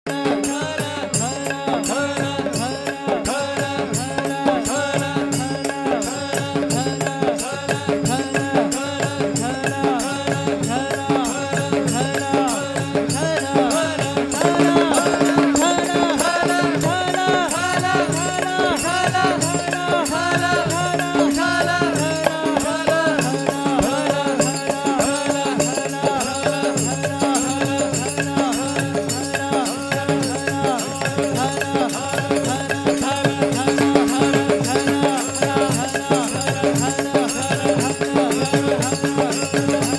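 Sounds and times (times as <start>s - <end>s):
percussion strikes: 0.1s - 39.9s
person singing melodically: 0.1s - 39.9s.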